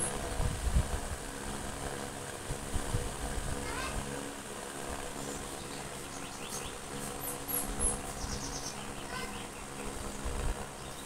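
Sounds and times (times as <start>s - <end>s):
low buzzing hum: 0.0s - 11.0s.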